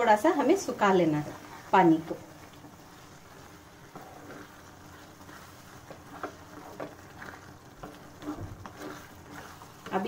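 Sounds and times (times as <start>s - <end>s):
spatula stirring wet vegetables: 0.0s - 10.0s.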